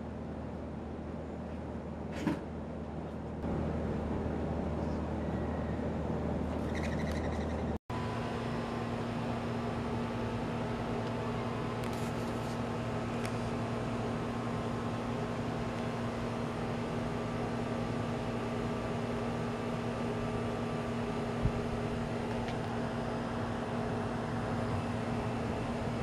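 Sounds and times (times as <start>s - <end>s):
machine hum: 3.2s - 26.0s.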